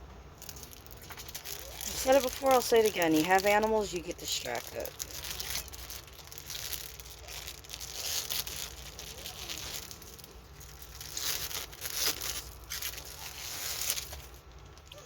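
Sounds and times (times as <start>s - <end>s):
plastic packaging crinkling and tearing: 0.4s - 15.0s.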